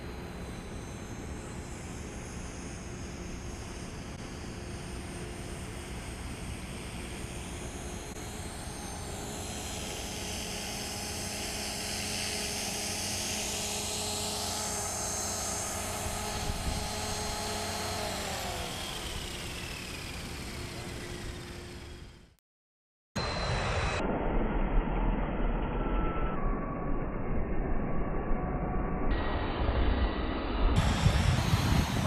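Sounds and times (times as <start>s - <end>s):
rc helicopter rotor whining: 0.0s - 22.4s, 23.2s - 28.4s, 29.1s - 32.0s.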